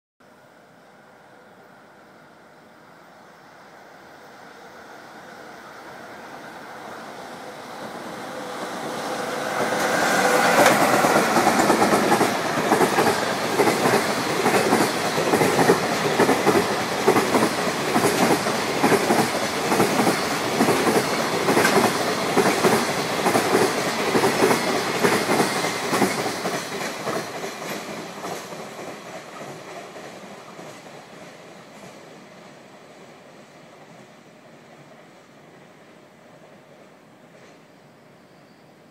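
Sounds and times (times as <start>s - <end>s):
freight train passing: 0.2s - 38.9s.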